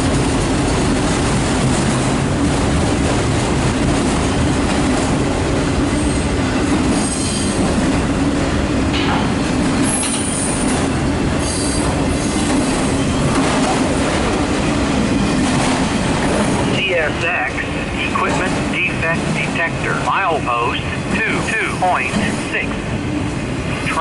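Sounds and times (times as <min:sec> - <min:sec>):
steel wheels rolling on rail: 0:00.0 - 0:20.1.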